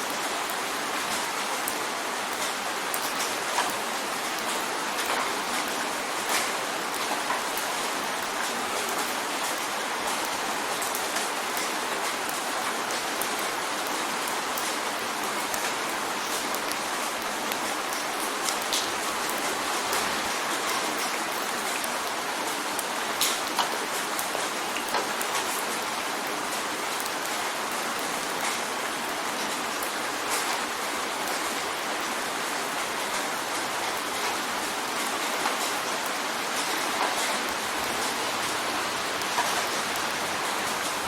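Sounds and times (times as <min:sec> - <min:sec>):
rain drumming on a window: 0:00.0 - 0:41.0
sharp raindrop impacts: 0:00.1 - 0:31.6, 0:32.5 - 0:41.0.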